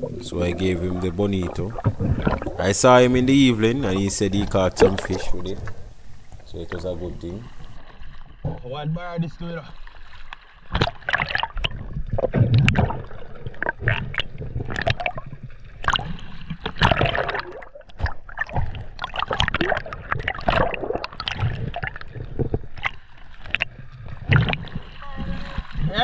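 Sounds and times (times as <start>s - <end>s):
sea water sloshing and gurgling: 0.0s - 26.0s
water splashes and bubbles: 0.0s - 26.0s.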